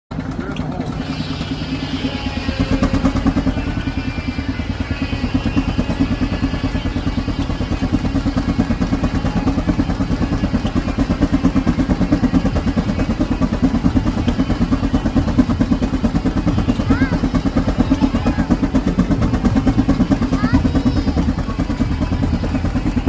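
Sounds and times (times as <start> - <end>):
steam engine running: 0.1 - 23.0.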